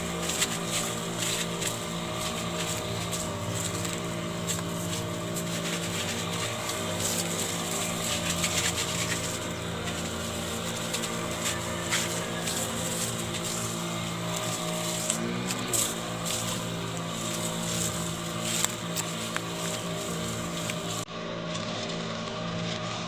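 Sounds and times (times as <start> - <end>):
spray hissing: 0.0 - 21.1
sprayer pump running: 0.0 - 23.0.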